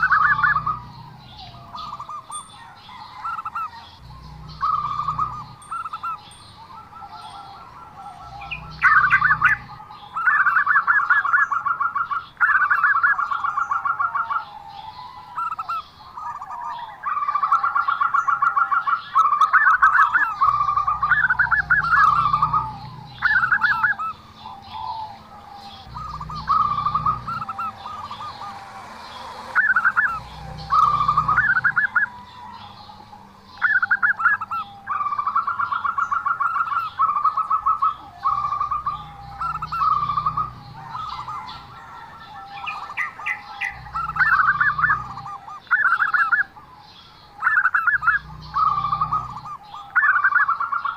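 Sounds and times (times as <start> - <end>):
dove singing pulsed notes: 0.0 - 50.9.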